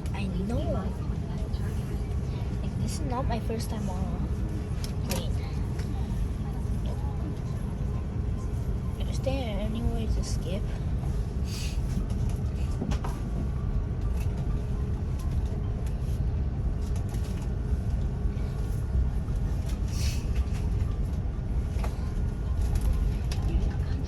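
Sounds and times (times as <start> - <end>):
airliner engine rumble: 0.0 - 24.0.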